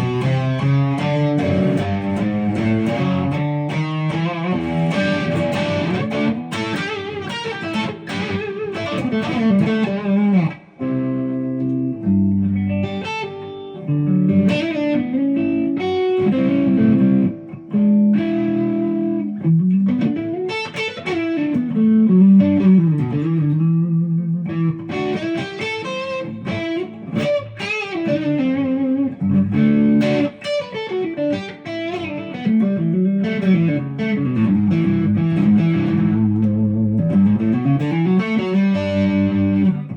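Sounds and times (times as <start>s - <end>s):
overdriven electric guitar lead lines: 0.0s - 39.9s.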